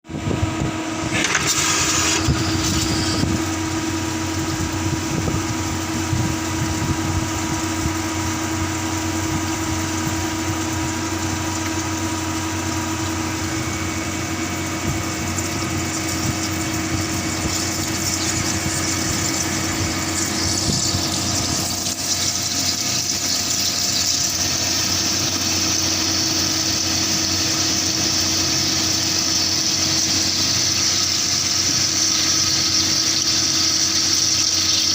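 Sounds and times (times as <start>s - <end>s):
machine humming: 0.1s - 34.9s.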